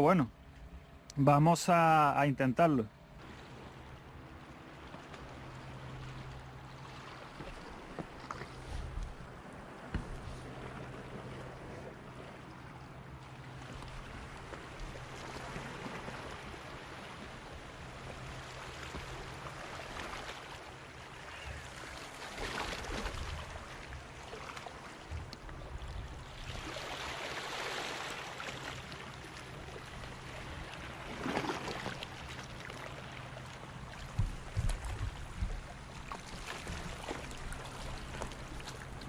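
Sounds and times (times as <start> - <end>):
seawater washing at shoreline: 0.0 - 39.0.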